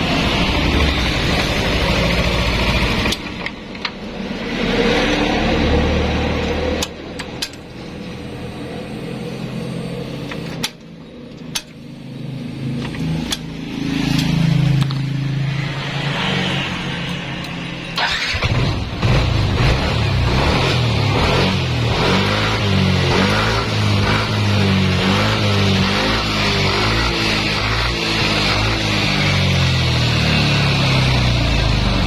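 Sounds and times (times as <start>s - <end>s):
scooter engine revving: 0.0s - 7.4s, 12.2s - 32.0s.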